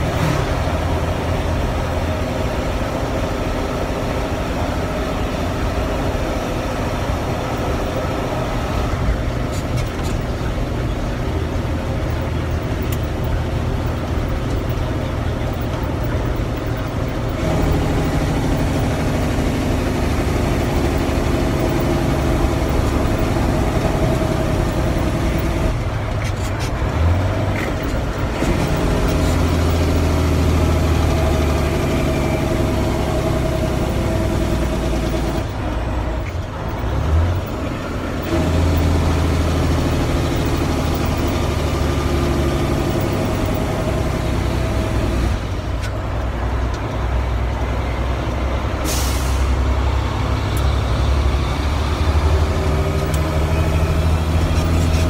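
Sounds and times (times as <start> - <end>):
truck diesel engine from cab: 0.0 - 55.0.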